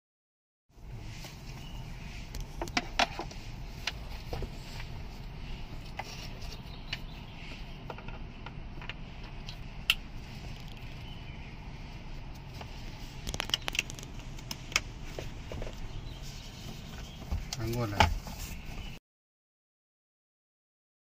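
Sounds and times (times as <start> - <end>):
steady low hum: 0.7 - 19.0.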